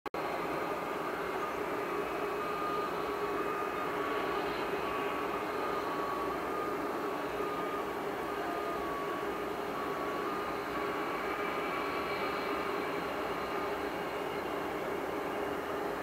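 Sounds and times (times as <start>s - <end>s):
jet engines at taxi power: 0.1s - 16.0s.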